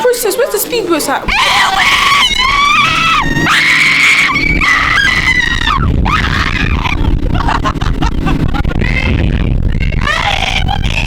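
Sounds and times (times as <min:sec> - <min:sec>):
boat engine and wind rumbling: 0:00.0 - 0:11.0
young people screaming: 0:01.3 - 0:11.0.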